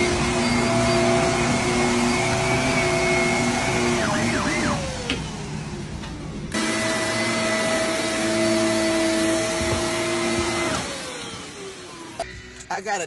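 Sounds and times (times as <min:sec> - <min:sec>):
electric motor whining: 0:00.0 - 0:12.6.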